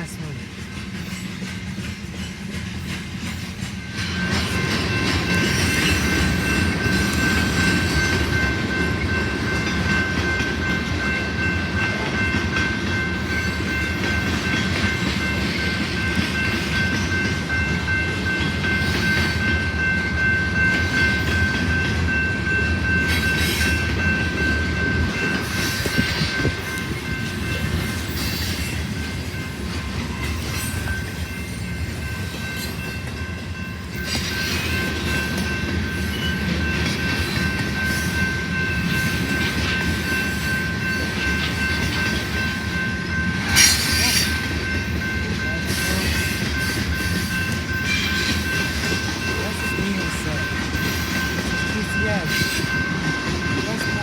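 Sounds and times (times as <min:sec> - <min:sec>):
freight train rumble: 0:00.0 - 0:54.0.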